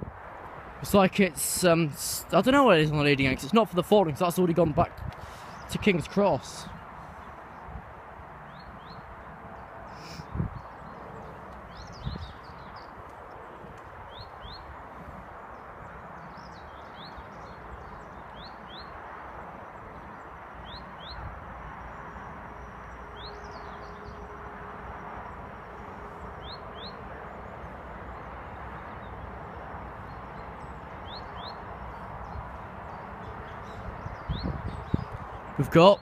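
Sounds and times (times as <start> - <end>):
outdoor background hiss: 0.0 - 36.0.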